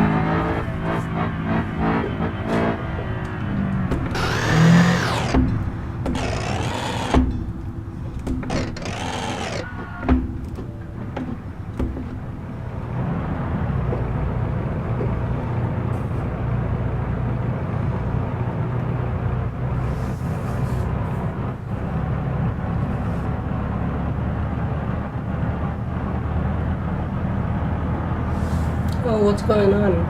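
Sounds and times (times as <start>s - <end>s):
car engine running steadily: 0.0s - 8.7s, 9.7s - 30.0s.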